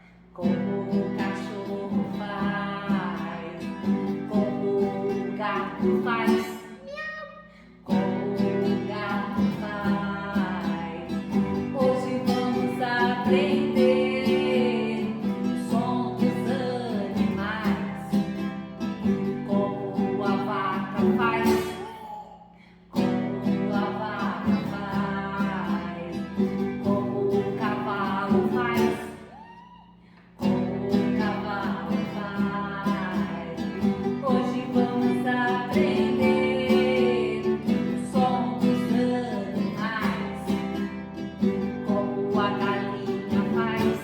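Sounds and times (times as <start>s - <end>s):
person singing children's song: 0.0s - 18.4s, 19.0s - 40.9s, 41.6s - 44.0s
strummed acoustic guitar: 0.0s - 22.3s, 23.0s - 29.4s, 30.4s - 44.0s.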